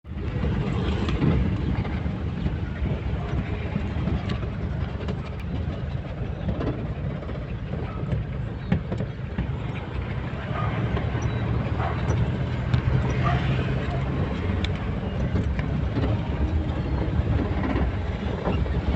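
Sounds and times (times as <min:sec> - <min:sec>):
vehicle rumbling: 0:00.0 - 0:18.9.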